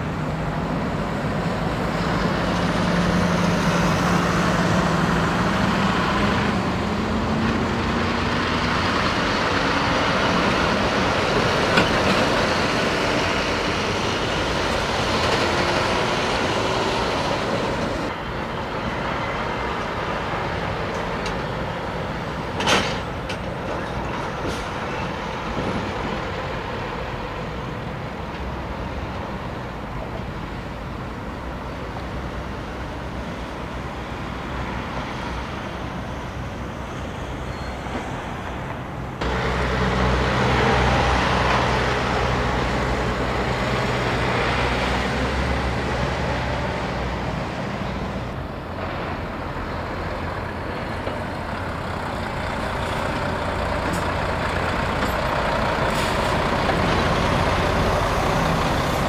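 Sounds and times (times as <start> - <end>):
truck diesel engines passing: 0.0 - 59.0.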